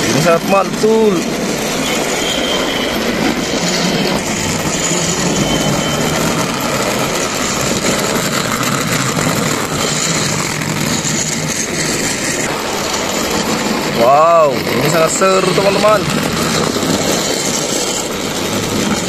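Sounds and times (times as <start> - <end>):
toy train motors whirring: 0.0 - 19.0.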